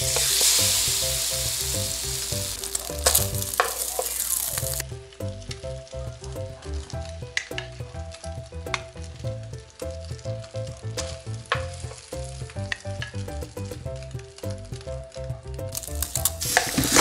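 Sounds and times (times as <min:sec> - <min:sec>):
bread sizzling in a pan: 0:00.0 - 0:15.0, 0:15.7 - 0:17.0
background music with a beat: 0:00.0 - 0:17.0.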